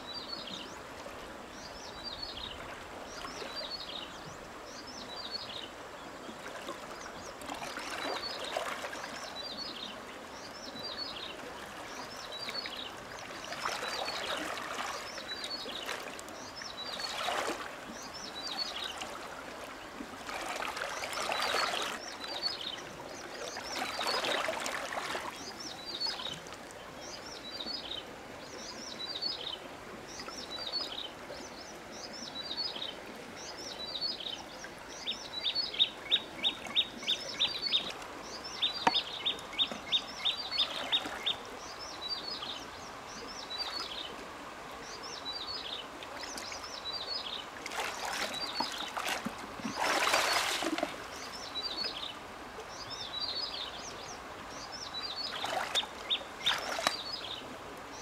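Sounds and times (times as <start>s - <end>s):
water swishing and splashing: 0.0s - 58.0s.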